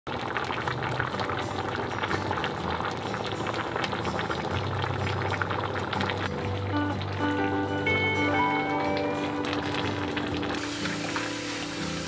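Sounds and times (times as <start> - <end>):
bubbling with pops and crackles: 0.1 - 7.7, 8.4 - 11.3
stew boiling in a pot: 0.1 - 12.0.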